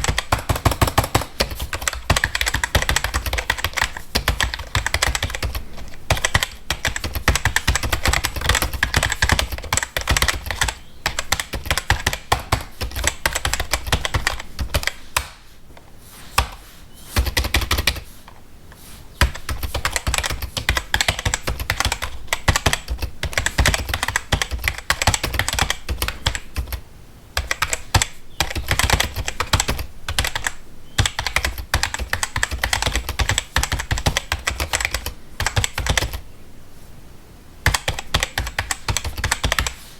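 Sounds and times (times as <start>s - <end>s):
fast typing on keyboard: 0.0s - 15.3s, 17.2s - 18.1s, 19.2s - 26.8s, 27.4s - 36.2s, 37.6s - 39.8s.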